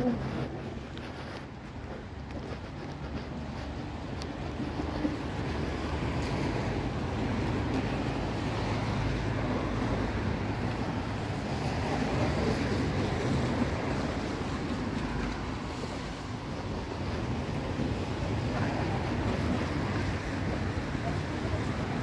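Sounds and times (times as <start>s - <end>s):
traffic hiss on wet roads: 0.0s - 22.0s
rain: 3.6s - 22.0s.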